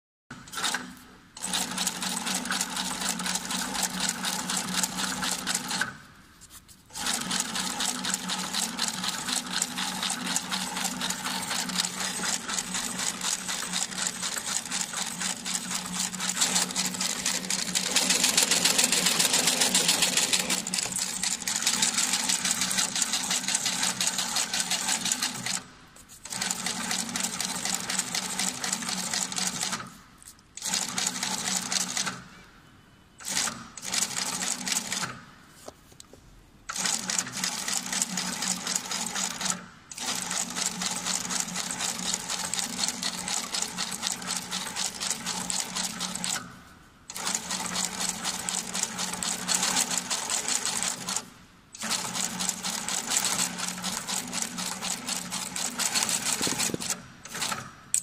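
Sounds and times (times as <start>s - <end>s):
stitching machine clattering: 0.5s - 5.9s, 6.9s - 25.6s, 26.2s - 29.9s, 30.6s - 32.2s, 36.7s - 46.5s, 47.1s - 51.2s, 51.8s - 57.7s.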